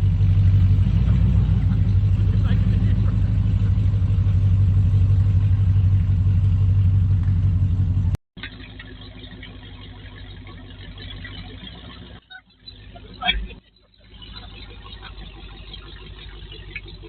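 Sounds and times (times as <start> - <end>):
drag car engine idling: 0.0 - 17.0
dull engine sound: 0.0 - 17.0.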